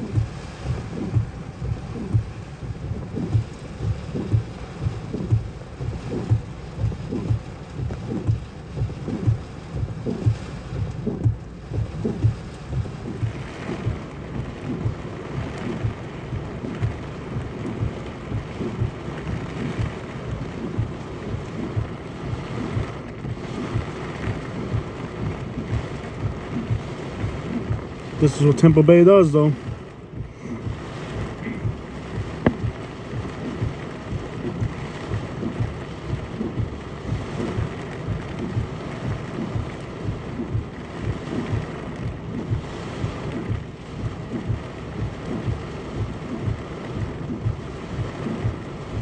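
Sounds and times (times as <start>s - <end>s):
heavy rain hiss: 0.0s - 49.0s
low thumps and rumbling: 0.0s - 49.0s.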